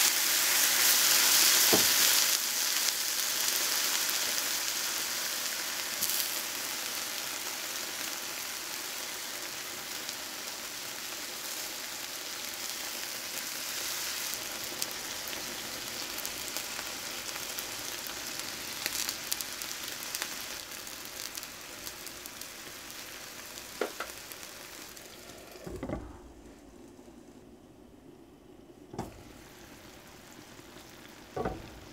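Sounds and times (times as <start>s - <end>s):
eggplant sizzling in frying pan: 0.0s - 25.9s, 29.0s - 31.9s.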